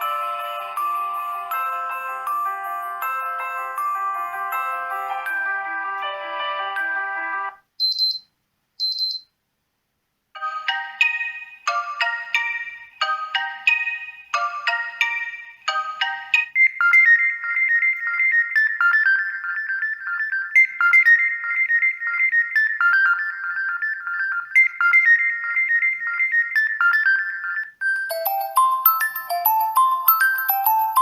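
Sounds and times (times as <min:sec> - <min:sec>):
phone ringtone melodies: 0:00.0 - 0:07.6, 0:10.4 - 0:31.0.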